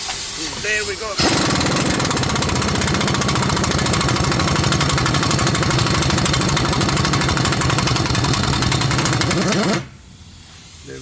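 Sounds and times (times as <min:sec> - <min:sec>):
impact wrench rattling: 0:01.2 - 0:10.0.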